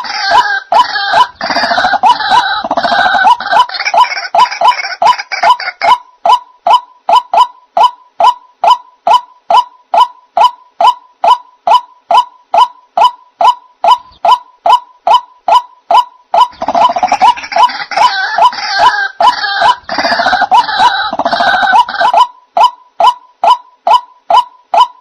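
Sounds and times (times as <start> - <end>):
harsh chorus of bird calls: 0.0 - 25.0
waterhen calls: 0.0 - 25.0.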